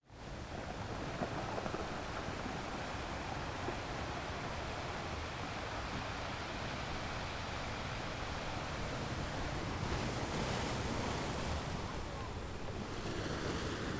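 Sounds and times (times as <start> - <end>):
wind and sea rushing: 0.2 - 13.9.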